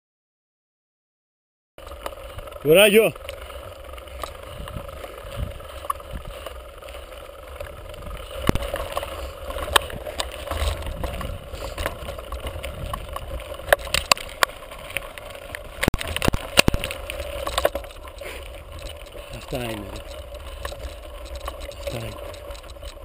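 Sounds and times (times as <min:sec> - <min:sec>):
bike clicking and rattling over stones: 0:01.8 - 0:23.0
tyres and wind rumbling: 0:01.8 - 0:23.0.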